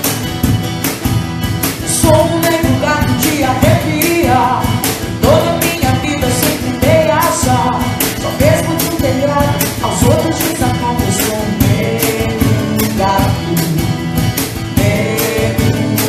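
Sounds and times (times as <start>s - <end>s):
pop-rock band playing: 0.0s - 16.0s
steady drum beat: 0.0s - 16.0s
person singing: 1.8s - 16.0s.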